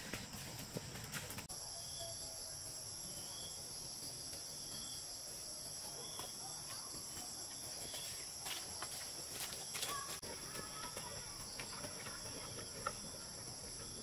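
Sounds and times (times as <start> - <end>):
forest insects droning: 0.0 - 14.0.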